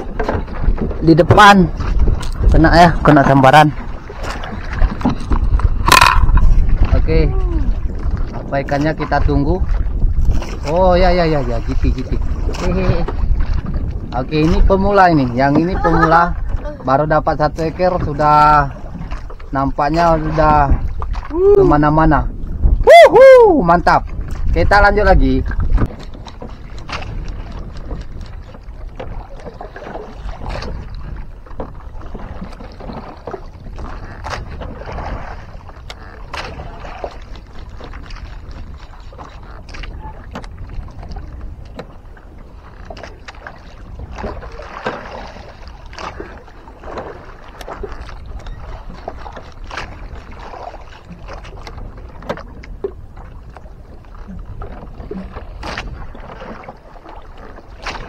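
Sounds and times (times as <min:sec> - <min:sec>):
water lapping against a boat hull: 0:00.0 - 0:58.0.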